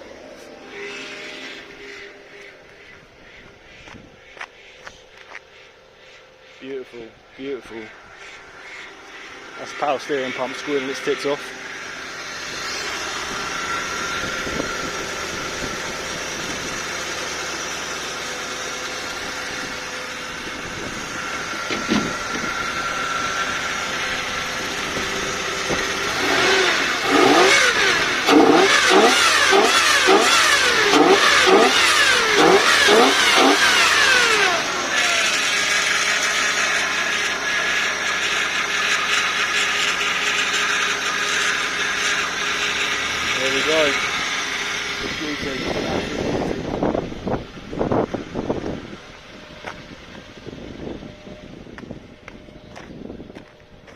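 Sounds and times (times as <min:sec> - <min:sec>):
car engine revving and idling: 0:00.0 - 0:05.9, 0:07.1 - 0:53.9.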